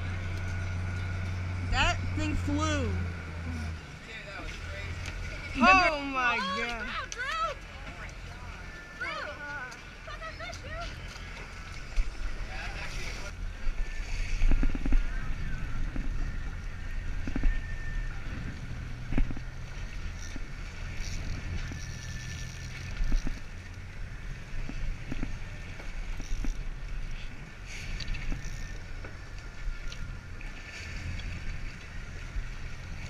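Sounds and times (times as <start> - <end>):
boat engine rumble: 0.0 - 33.0
water splashing along hull: 0.0 - 33.0.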